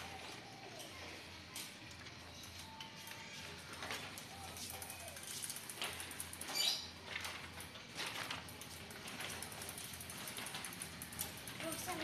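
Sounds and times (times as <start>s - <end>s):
bicycles clicking and rattling on tiles: 0.0s - 12.0s.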